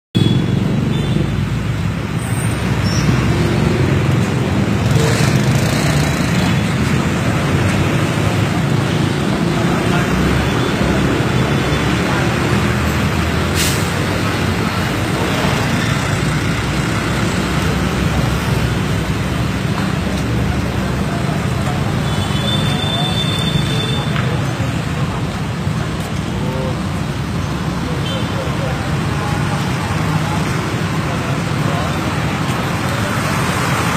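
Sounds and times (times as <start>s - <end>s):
road traffic rumble: 0.2s - 33.9s.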